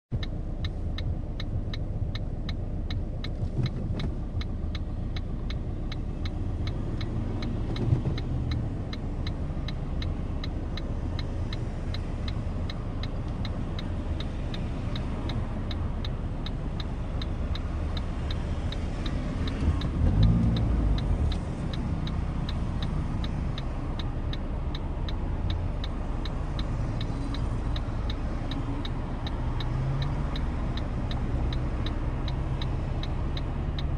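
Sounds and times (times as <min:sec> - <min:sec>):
turn signal ticking: 0:00.1 - 0:33.9.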